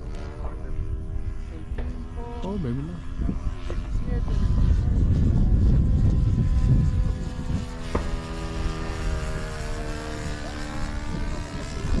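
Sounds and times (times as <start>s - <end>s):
model airplane engine droning: 0.0s - 12.0s.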